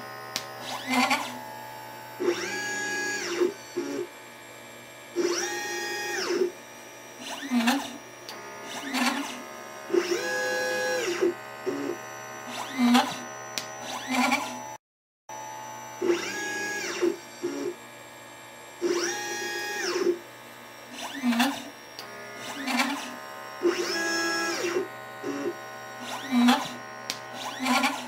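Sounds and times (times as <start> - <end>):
stepper motors whining: 0.0 - 4.1, 7.2 - 14.8, 15.4 - 17.8, 18.8 - 20.2, 20.9 - 28.0.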